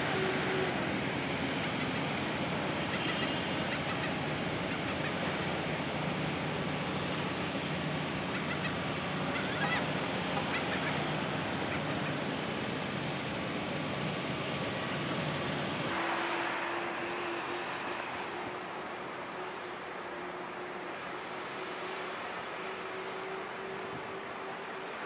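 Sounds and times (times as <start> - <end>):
steady wash of noise: 0.0 - 25.0.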